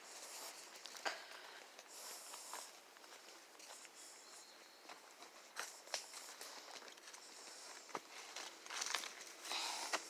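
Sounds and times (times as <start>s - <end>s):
footsteps on leaves and twigs: 0.0s - 10.0s.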